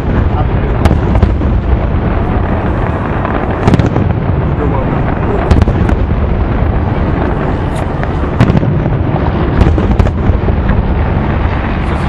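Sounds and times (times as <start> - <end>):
rumble of distant firework bursts: 0.0 - 12.0
sharp firework bangs: 0.0 - 12.0.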